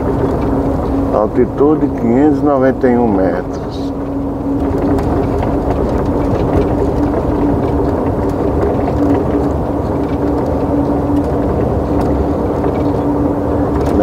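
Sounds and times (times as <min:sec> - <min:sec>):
road noise: 0:00.0 - 0:14.0
truck diesel engine rumble: 0:00.0 - 0:14.0.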